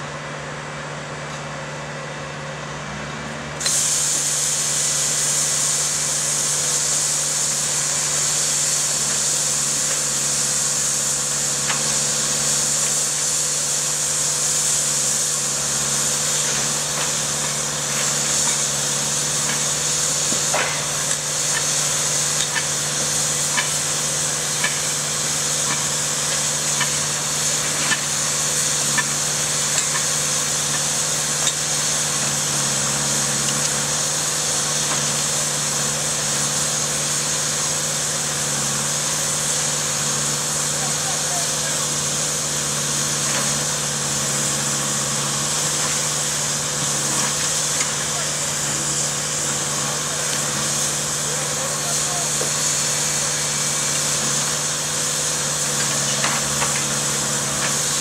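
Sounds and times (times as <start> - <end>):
diesel engine running: 0.0 - 58.0
loud high hiss: 3.6 - 58.0.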